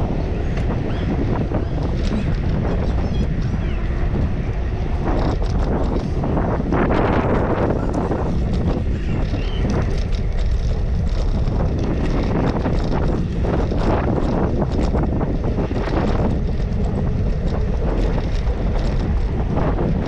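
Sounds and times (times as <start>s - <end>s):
bicycle clicks and rattles: 0.0s - 20.0s
wind buffeting microphone: 0.0s - 20.0s.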